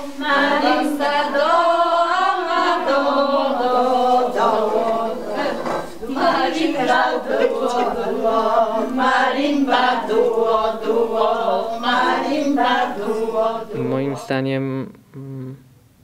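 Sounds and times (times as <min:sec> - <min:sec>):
women singing a cappella: 0:00.0 - 0:14.3.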